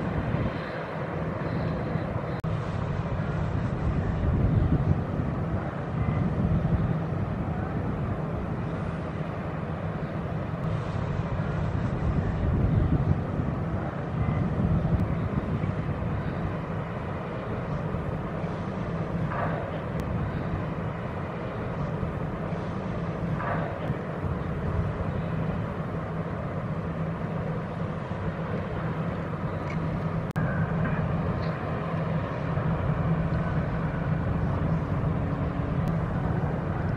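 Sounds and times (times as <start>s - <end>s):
ship engine rumble: 0.0s - 36.9s.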